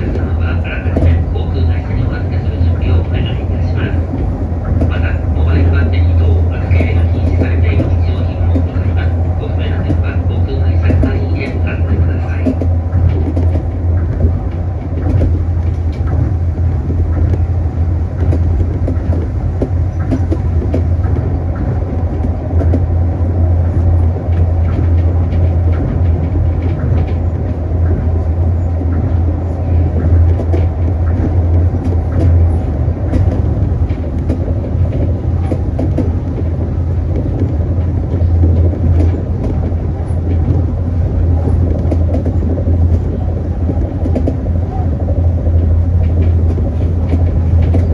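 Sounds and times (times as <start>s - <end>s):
monorail train hum and rumble: 0.0s - 47.9s.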